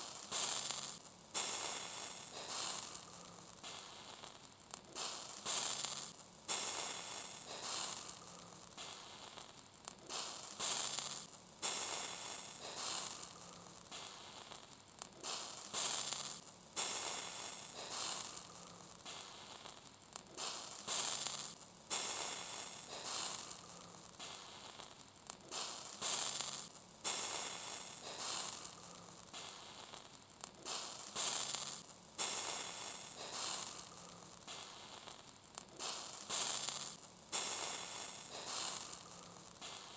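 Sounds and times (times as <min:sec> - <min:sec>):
fat dripping and hissing on grill: 0:00.0 - 0:39.9
sausages sizzling: 0:00.0 - 0:39.9.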